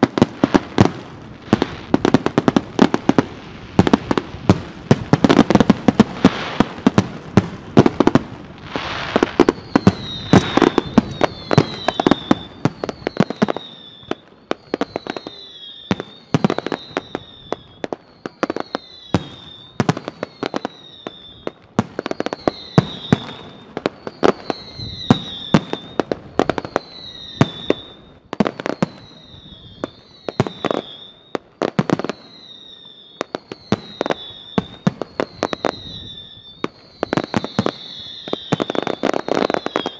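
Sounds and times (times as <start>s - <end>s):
falling firework whistles: 0.0s - 39.9s
fireworks bangs: 0.0s - 39.9s.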